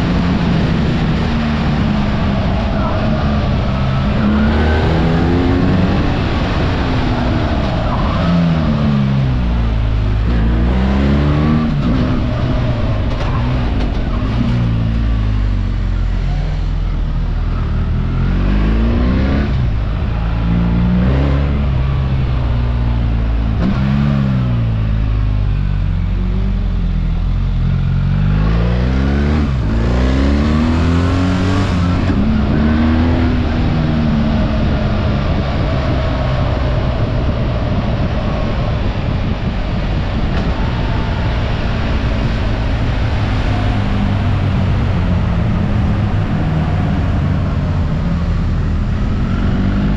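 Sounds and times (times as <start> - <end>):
motorcycle engine revving: 0.0 - 49.9
rush of noise: 0.0 - 49.9.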